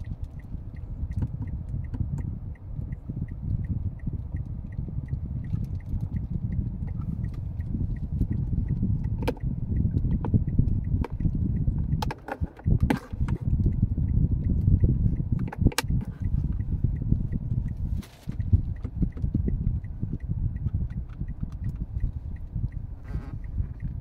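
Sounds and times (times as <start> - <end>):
car cabin rumble: 0.0 - 24.0.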